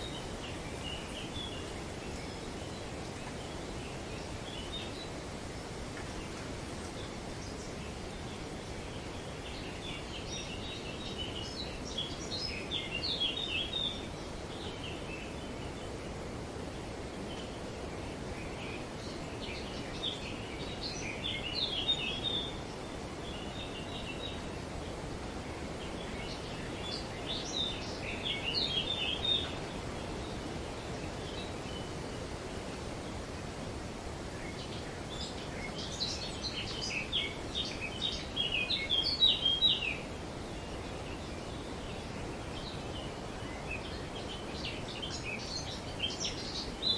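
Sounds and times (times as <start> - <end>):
birds chirping: 0.0 - 46.9
outdoor background rush: 0.0 - 46.9.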